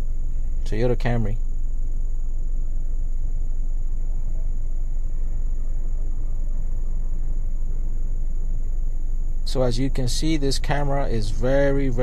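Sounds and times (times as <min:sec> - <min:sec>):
high-pitched whine: 0:00.0 - 0:12.0
steady low rumble: 0:00.0 - 0:12.0.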